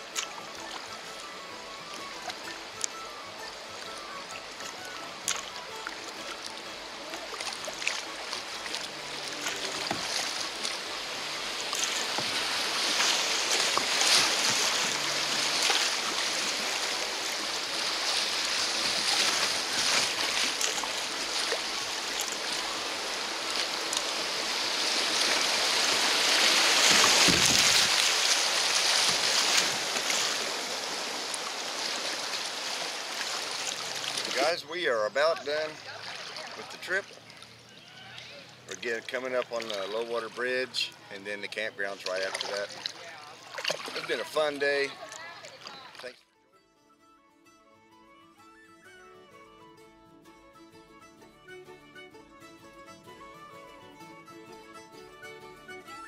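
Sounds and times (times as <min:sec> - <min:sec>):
river water rushing and splashing: 0:00.0 - 0:46.2.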